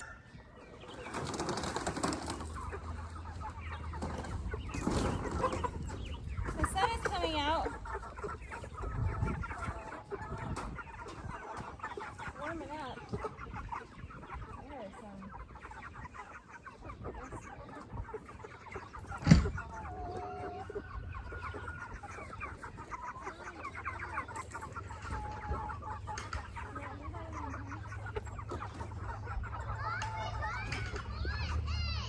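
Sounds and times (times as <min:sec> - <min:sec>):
chickens clucking and peeping: 0:00.0 - 0:32.0.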